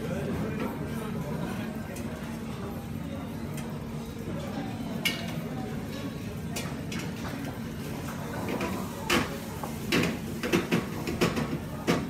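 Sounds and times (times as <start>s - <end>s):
kitchen background noise: 0.0s - 12.0s.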